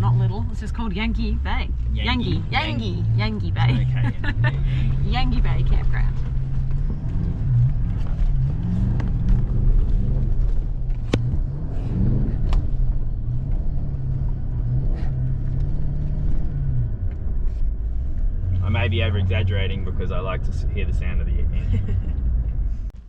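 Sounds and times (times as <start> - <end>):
engine revving under load: 0.0 - 22.8.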